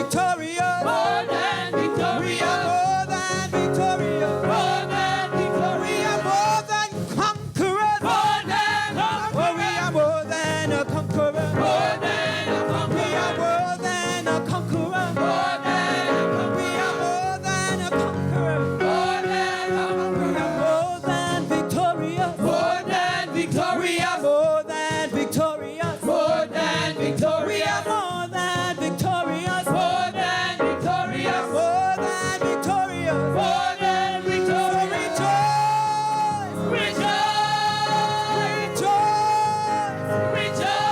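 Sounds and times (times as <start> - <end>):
gospel church band music: 0.0 - 40.9.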